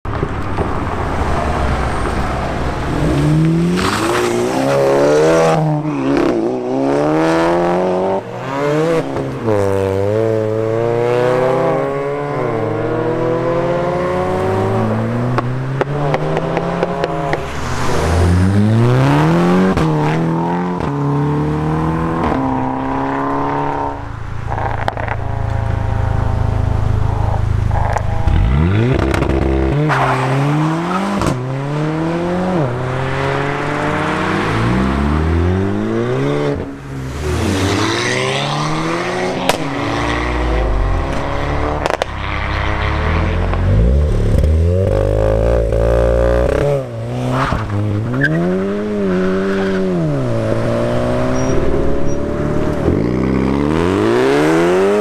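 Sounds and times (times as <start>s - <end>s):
cars accelerating hard: 0.4s - 55.0s.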